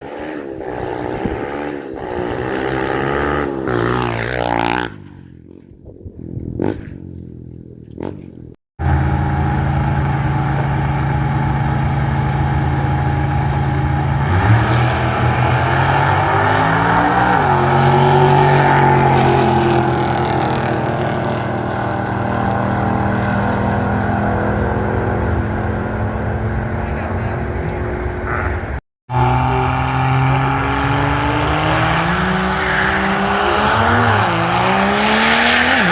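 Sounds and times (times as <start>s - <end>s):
truck engine revving: 0.0s - 5.0s, 6.2s - 35.9s.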